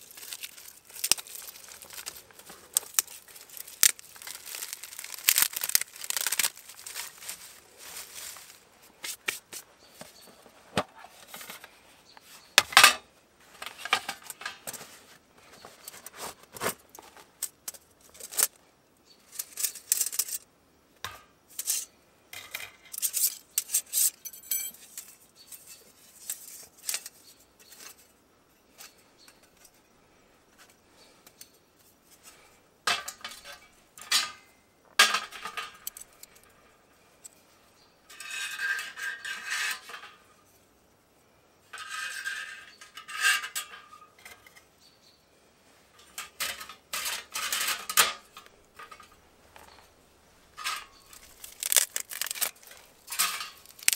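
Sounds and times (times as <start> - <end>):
metal camp stove parts clattering: 0.0 - 8.6, 10.0 - 11.8, 12.6 - 18.5, 19.2 - 20.4, 21.0 - 29.9, 30.5 - 37.5, 38.1 - 40.5, 41.6 - 44.8, 45.9 - 53.9.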